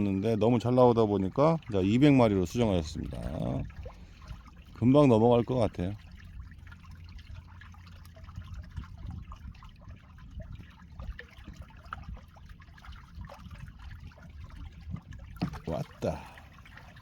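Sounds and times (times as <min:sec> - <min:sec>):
seawater lapping and trickling: 0:00.0 - 0:17.0
small splashes and drips: 0:00.0 - 0:17.0.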